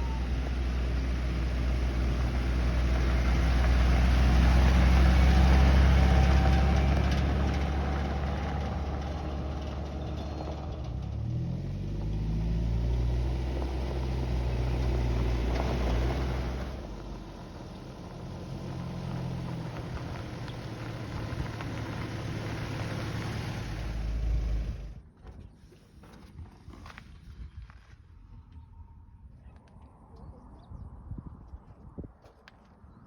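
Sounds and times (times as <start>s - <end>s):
car engine low rumble: 0.0s - 33.0s.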